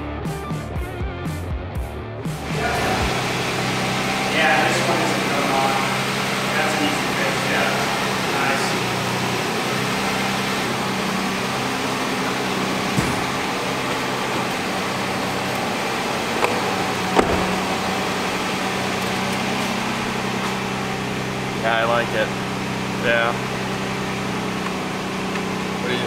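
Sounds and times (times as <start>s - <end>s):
vehicle engine humming: 2.2s - 26.0s.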